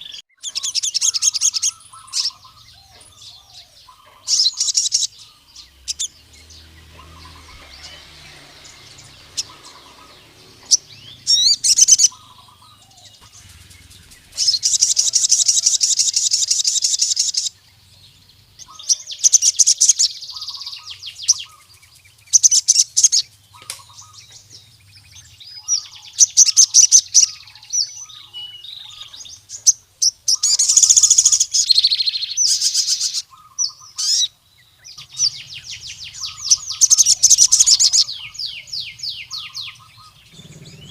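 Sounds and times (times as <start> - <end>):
bird singing rapid trills: 0.0 - 40.9
soft bird chirps: 0.0 - 40.9.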